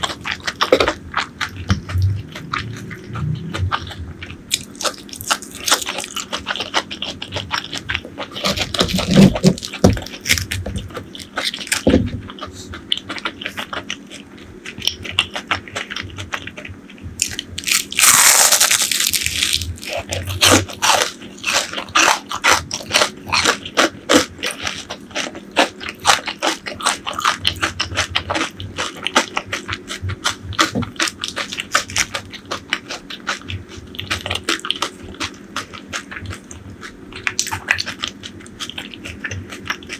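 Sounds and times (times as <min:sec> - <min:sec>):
crunching fried food: 0:00.0 - 0:39.9.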